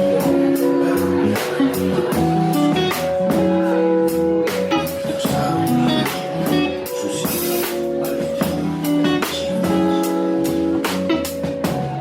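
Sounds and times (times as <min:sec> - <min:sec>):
drum and cymbal strokes: 0:00.0 - 0:12.0
jazz band playing: 0:00.0 - 0:12.0.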